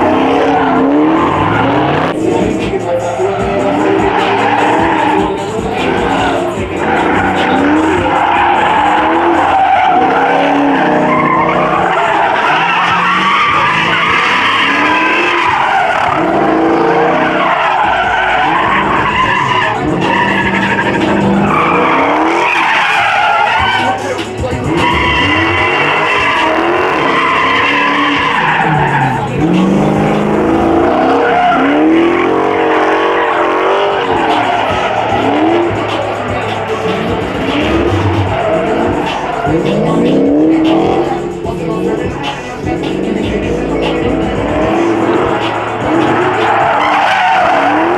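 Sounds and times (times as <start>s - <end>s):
car engine revving: 0.0s - 47.9s
tyres squealing: 0.0s - 47.9s.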